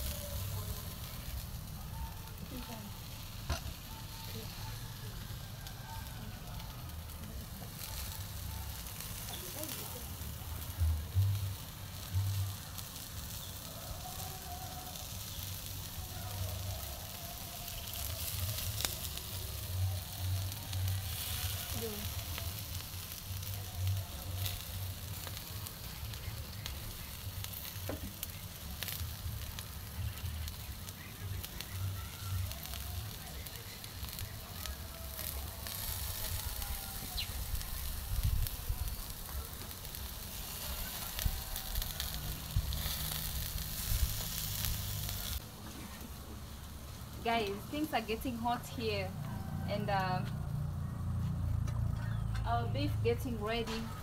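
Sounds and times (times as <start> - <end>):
crackling pops from fat and coals: 0.0 - 49.5
meat sizzling on a grill: 0.0 - 51.6.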